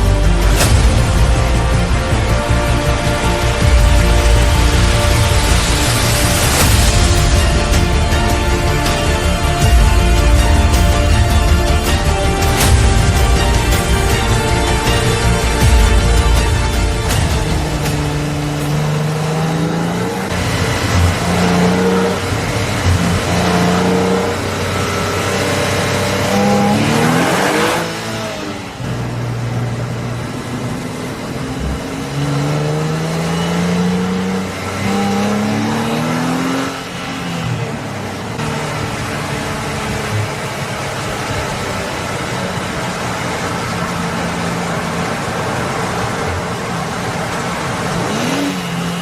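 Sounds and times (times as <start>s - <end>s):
car engine accelerating through gears: 0.0s - 49.0s.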